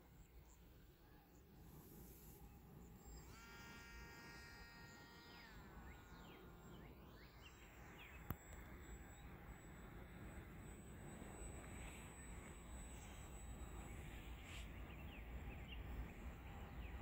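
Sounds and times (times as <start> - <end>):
electric motor and propeller whine: 0.0 - 17.0.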